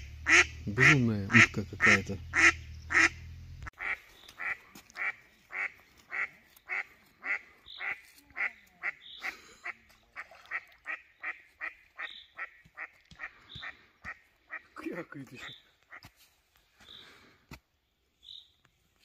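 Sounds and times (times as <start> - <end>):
duck quacking: 0.0 - 16.1.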